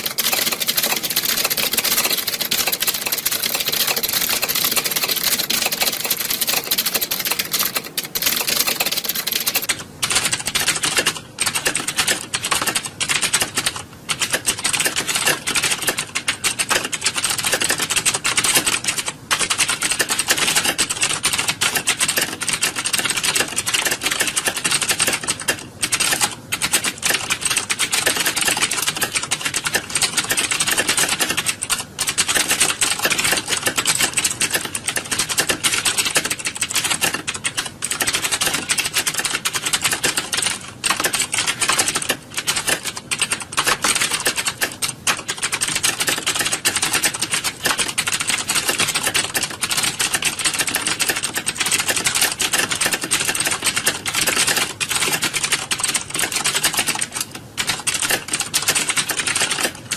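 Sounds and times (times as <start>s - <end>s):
rapid typing on keyboards: 0.0s - 59.9s.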